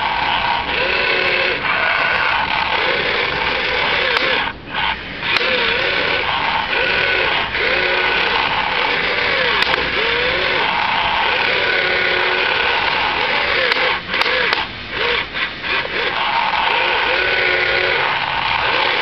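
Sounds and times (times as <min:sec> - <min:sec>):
toy excavator motors whining: 0:00.0 - 0:19.0.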